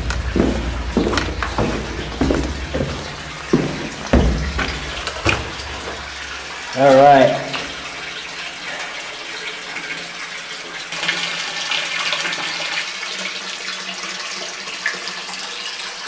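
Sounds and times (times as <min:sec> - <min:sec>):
water pouring from hose and splashing: 0:00.0 - 0:16.0.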